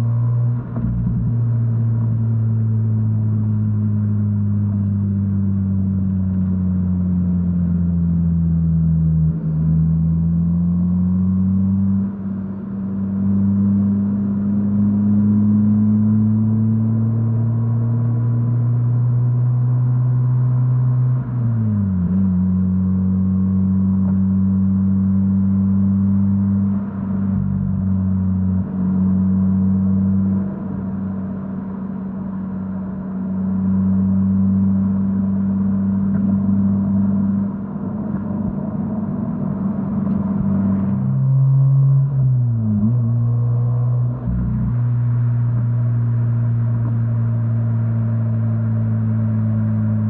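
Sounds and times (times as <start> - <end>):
rotary car engine droning: 0.0 - 50.0.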